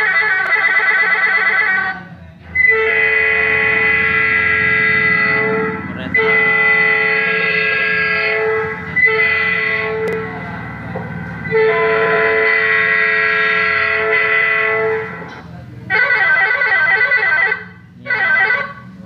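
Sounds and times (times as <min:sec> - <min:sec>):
electronic horn tones: 0:00.0 - 0:19.0.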